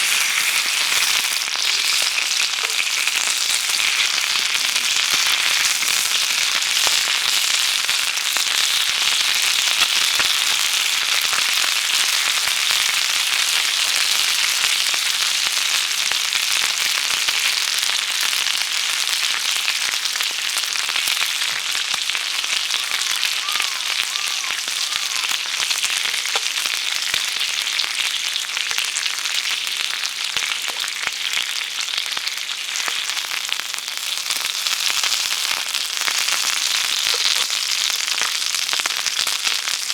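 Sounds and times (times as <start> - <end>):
fire crackling and popping: 0.0 - 39.9
meat sizzling over campfire: 0.0 - 39.9.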